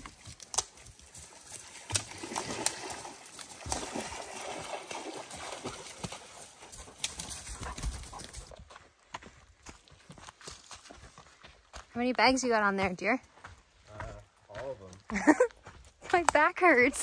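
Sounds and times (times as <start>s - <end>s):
footsteps on a trail: 0.0s - 17.0s.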